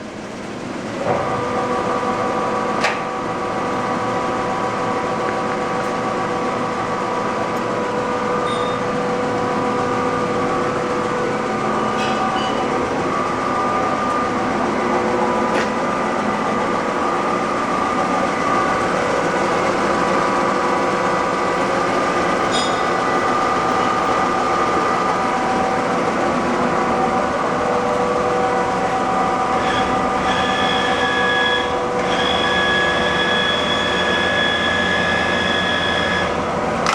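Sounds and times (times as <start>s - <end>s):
lathe whining: 0.9s - 36.9s.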